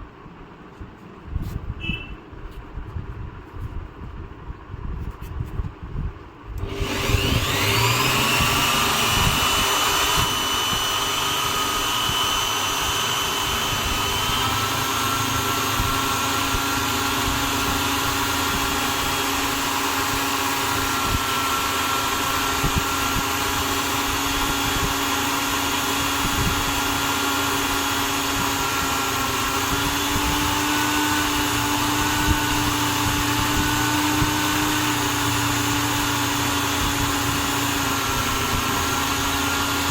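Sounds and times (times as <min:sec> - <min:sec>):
electric drill whining: 0:06.6 - 0:39.9.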